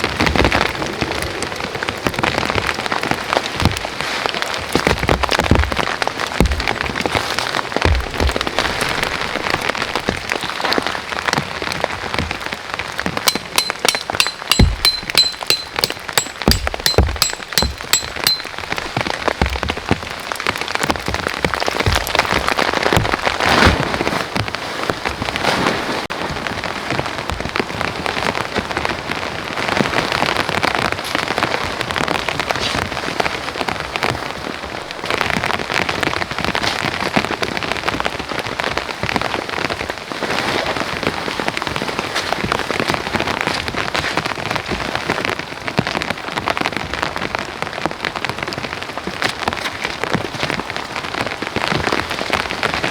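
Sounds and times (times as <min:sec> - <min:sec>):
heavy rain pattering: 0:00.0 - 0:52.9.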